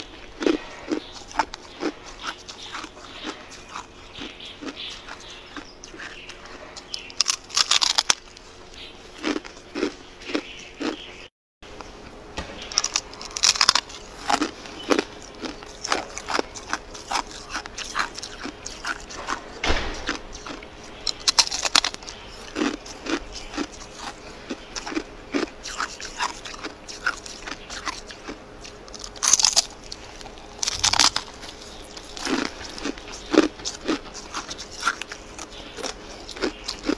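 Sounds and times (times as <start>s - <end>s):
ice crunching between teeth: 0.0s - 11.2s, 12.7s - 36.9s.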